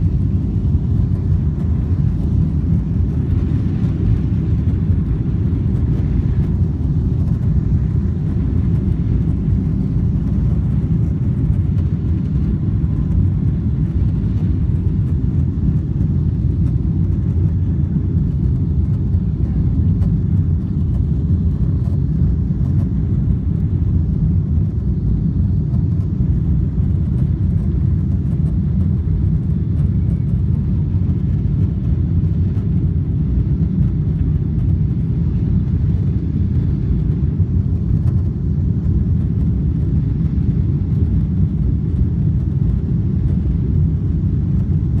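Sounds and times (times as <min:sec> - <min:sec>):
airflow around fuselage: 0:00.0 - 0:45.0
jet engines rumbling: 0:00.0 - 0:45.0.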